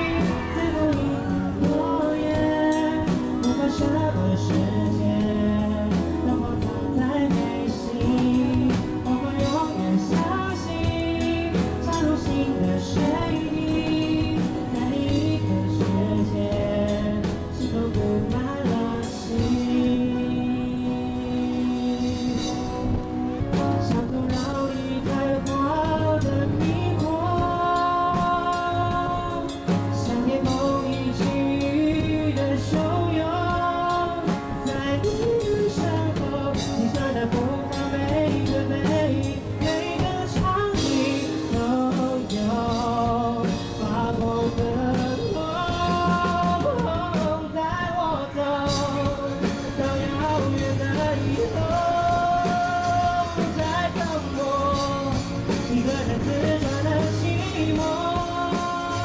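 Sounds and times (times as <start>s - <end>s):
lead singer singing: 0.0s - 59.0s
live band playing: 0.0s - 59.0s.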